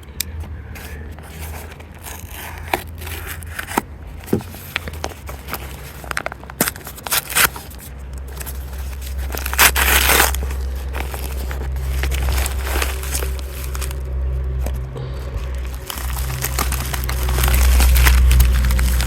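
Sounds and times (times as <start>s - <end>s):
steady low hum: 0.0s - 19.0s
cardboard ripping: 0.8s - 14.7s, 15.4s - 19.0s.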